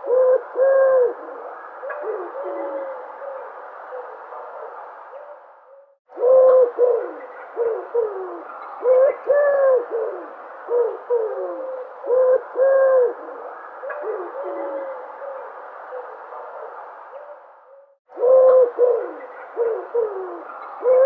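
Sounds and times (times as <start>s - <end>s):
dove cooing: 0.0s - 21.0s
steady background hiss: 0.0s - 21.0s.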